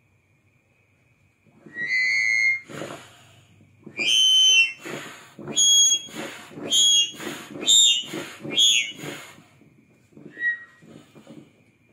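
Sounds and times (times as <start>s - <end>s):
bellows pump whistling air: 1.5s - 11.9s
soft rush of air refilling pump: 1.5s - 11.9s.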